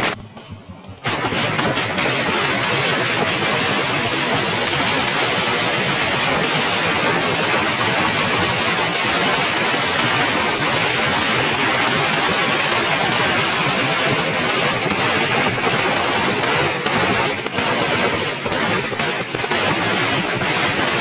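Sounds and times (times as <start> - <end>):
firecrackers crackling: 0.0 - 21.0.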